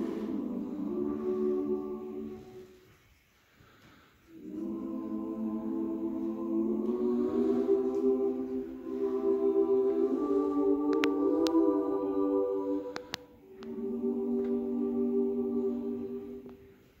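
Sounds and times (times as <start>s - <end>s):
choir singing in harmony: 0.0s - 3.0s, 4.3s - 17.0s.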